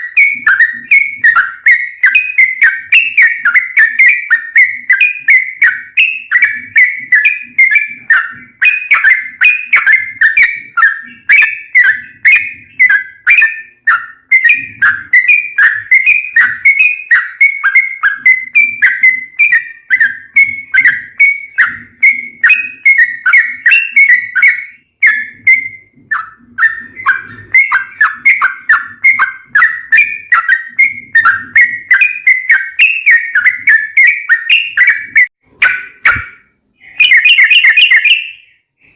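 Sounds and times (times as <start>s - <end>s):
bird singing bubbly chirps: 0.0s - 38.5s.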